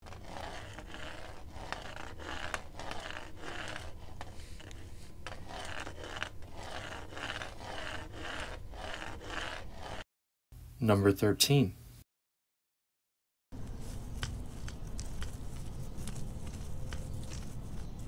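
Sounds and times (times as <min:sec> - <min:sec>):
cane tip scraping cement floor: 0:00.0 - 0:10.1, 0:13.5 - 0:18.0.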